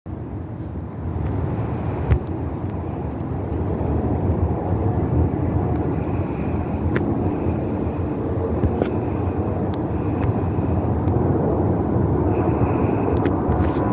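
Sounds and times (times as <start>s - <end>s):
jet airliner engine rumble: 0.1s - 13.9s.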